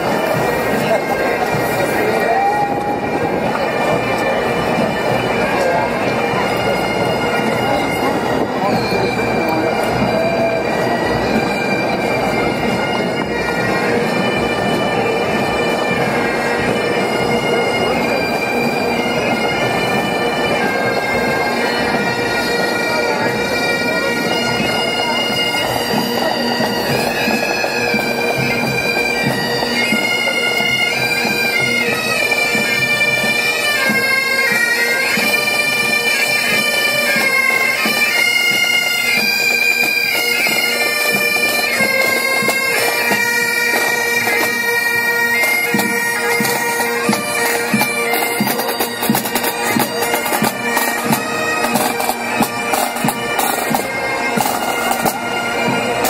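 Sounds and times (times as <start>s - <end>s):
pipe band playing bagpipes: 0.0s - 56.0s.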